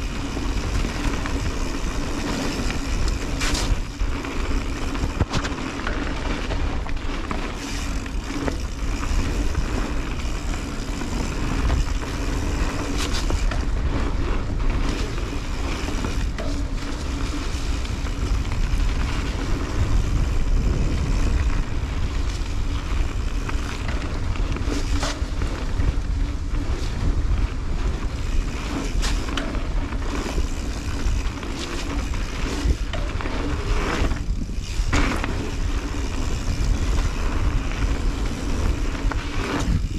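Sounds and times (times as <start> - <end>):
bike rattling and knocking: 0.0 - 39.9
bike tyres rolling on dirt: 0.0 - 39.9
wind rumble on microphone: 0.0 - 39.9.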